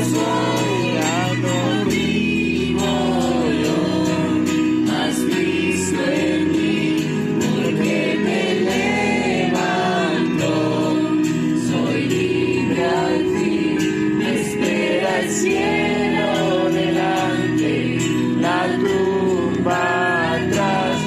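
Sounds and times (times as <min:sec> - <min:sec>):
congregation singing worship song: 0:00.0 - 0:21.0
musical backing: 0:00.0 - 0:21.0.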